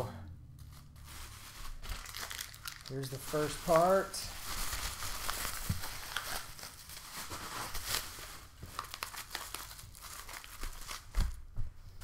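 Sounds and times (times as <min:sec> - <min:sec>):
bubble wrap crackling: 0:00.6 - 0:11.6.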